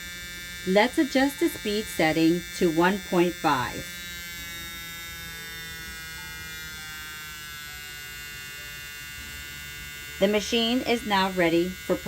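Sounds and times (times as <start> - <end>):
small electric motor buzzing: 0.0 - 12.0.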